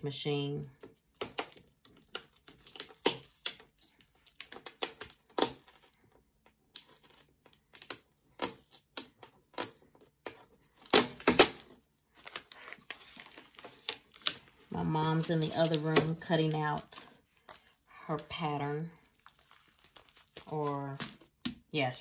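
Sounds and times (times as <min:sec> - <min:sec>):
plastic film peeling: 0:00.9 - 0:21.5.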